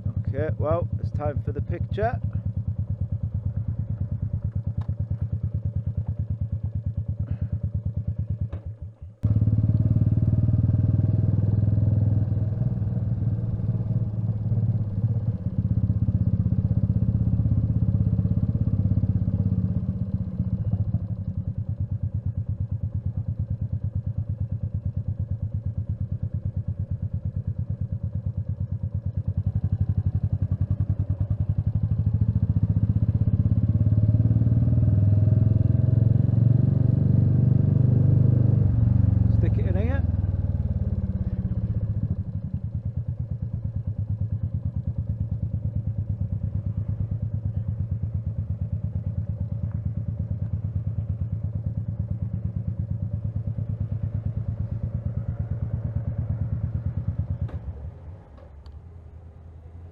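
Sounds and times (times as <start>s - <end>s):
motorcycle engine pulsing: 0.0s - 58.6s.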